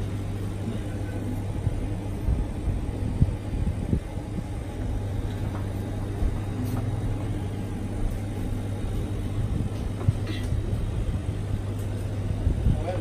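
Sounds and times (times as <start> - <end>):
vacuum pump humming: 0.0 - 13.0.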